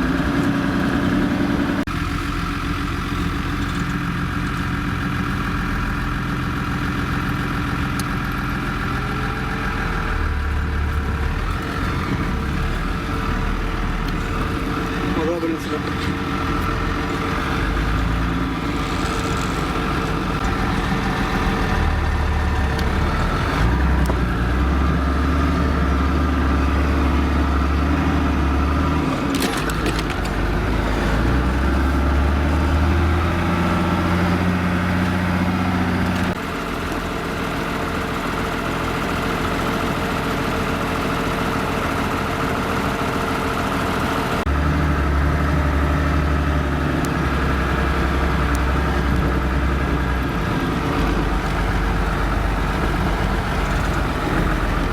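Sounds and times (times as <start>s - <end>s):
off-road vehicle engine: 0.0s - 54.9s.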